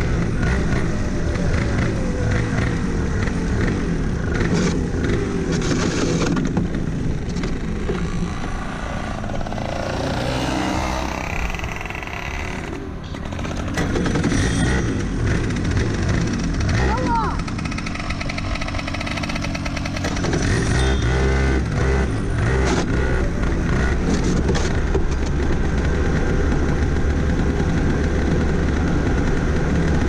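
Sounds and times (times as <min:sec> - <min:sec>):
go-kart engine at low revs: 0:00.0 - 0:30.0.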